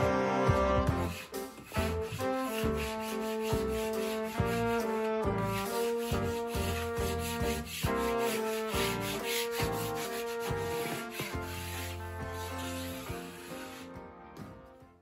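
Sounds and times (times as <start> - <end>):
background music: 0.0 - 15.0
sanding block rubbing gypsum board: 0.8 - 14.0.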